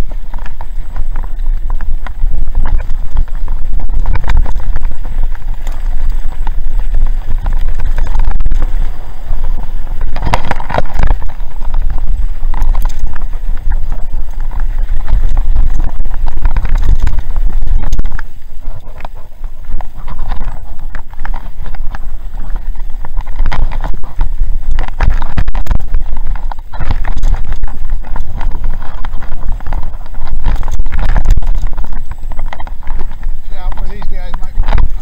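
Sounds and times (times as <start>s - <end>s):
bike tyres crunching over stones: 0.0s - 35.0s
wind buffeting microphone: 0.0s - 35.0s.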